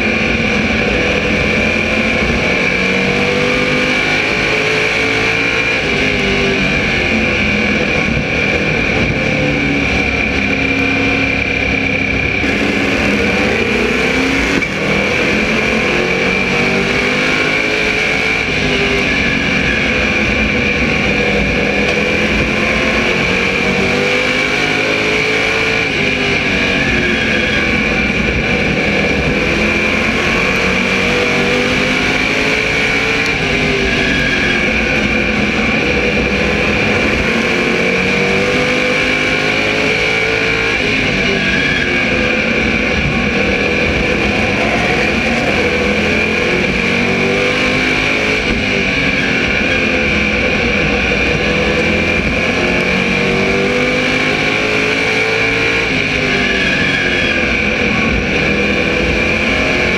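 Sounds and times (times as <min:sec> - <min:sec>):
high whine: 0:00.0 - 0:59.9
race car engine: 0:00.0 - 0:59.9.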